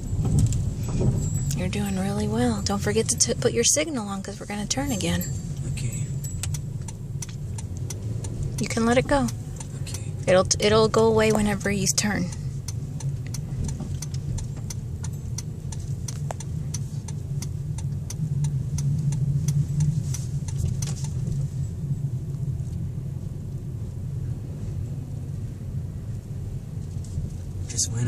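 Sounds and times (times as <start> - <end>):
turn signal ticking: 0.0 - 24.5
engine and road rumble in cabin: 0.0 - 28.0.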